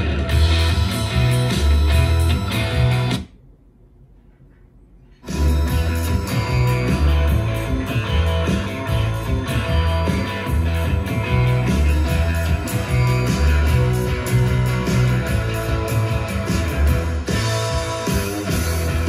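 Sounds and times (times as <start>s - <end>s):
rock song from a speaker: 0.0s - 3.3s, 5.2s - 19.0s.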